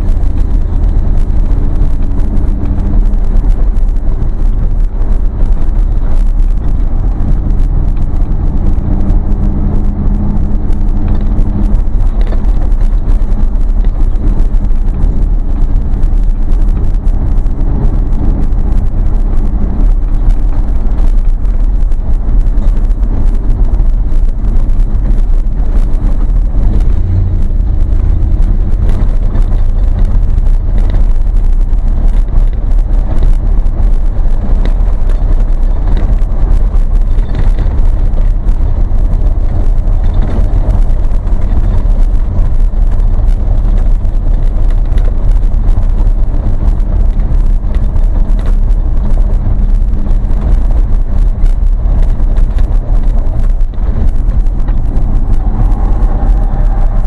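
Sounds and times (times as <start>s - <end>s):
engine and road drone: 0.0s - 57.0s
tyres crackling on gravel: 0.0s - 57.0s.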